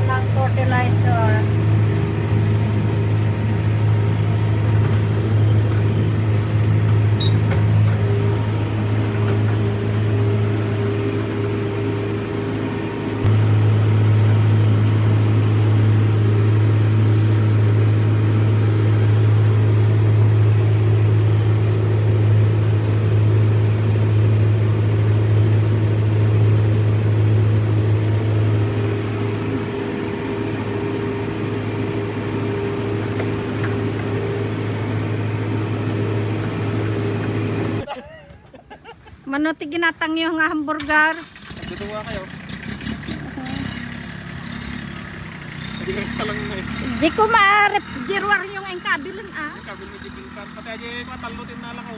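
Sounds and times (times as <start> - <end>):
tractor engine running: 0.0 - 37.9, 39.4 - 51.9.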